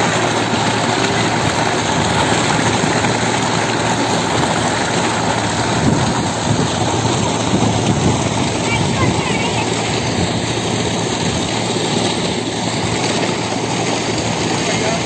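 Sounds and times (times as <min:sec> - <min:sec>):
water gushing into tank: 0:00.0 - 0:15.0.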